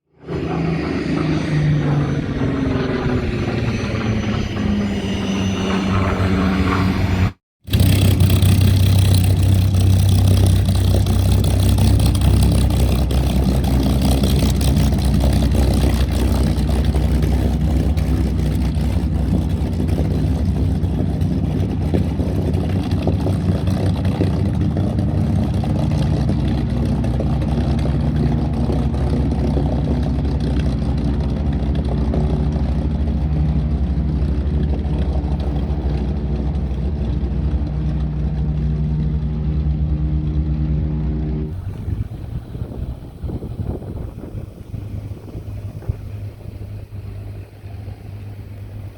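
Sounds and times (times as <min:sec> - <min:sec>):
aircraft engine running: 0:00.0 - 0:48.9.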